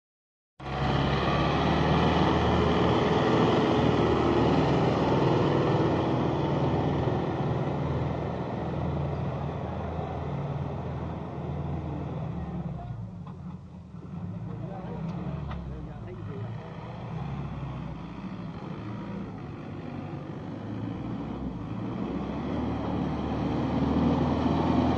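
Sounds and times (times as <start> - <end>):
tractor engine under load: 0.6 - 24.9.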